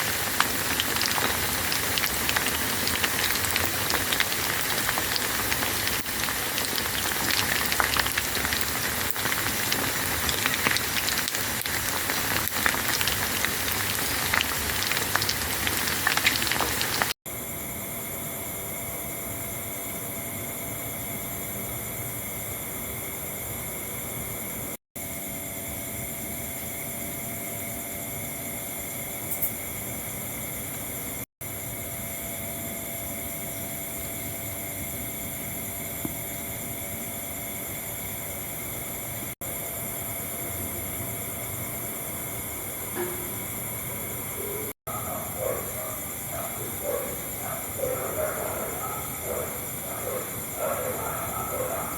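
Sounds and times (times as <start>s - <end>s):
chicken deep-frying in oil: 0.0s - 17.5s, 27.4s - 51.9s.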